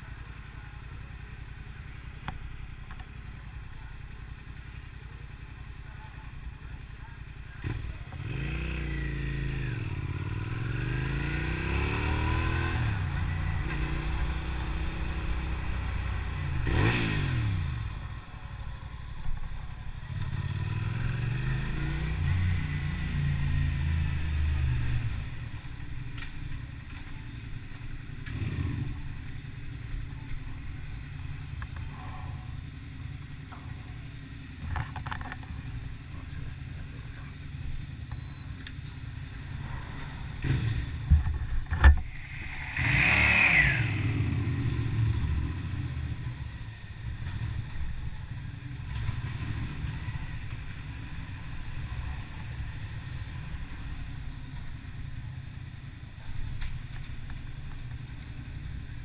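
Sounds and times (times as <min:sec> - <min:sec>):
motorcycle engine accelerating: 0:07.6 - 0:38.3, 0:39.0 - 0:59.0.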